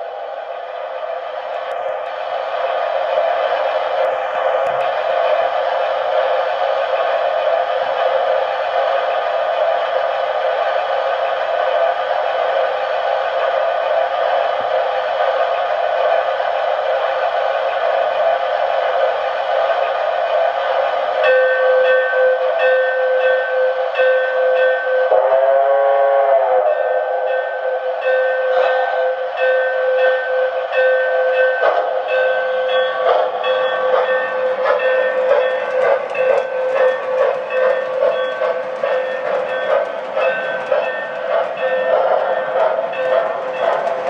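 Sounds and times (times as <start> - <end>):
steam whistle: 0.0 - 44.0
toy train steady tone: 0.0 - 44.0.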